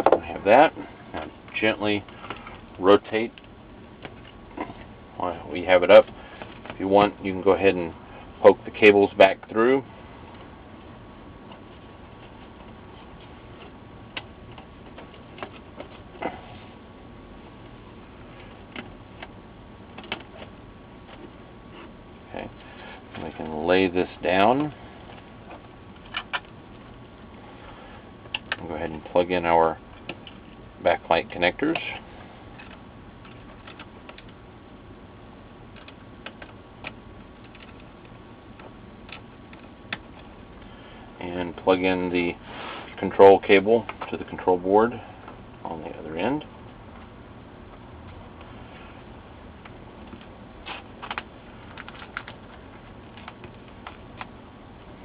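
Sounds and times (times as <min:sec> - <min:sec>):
steady low hiss: 0:00.0 - 0:55.0.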